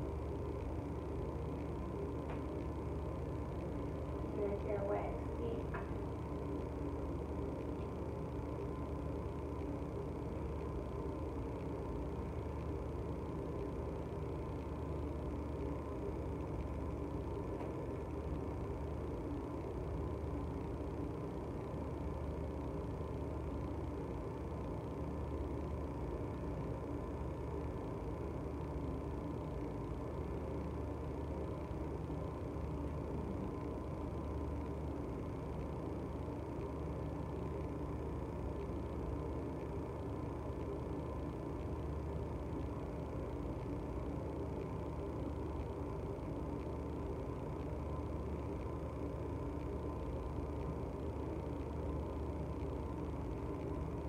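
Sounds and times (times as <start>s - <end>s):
low hum and rumble: 0.0s - 54.0s.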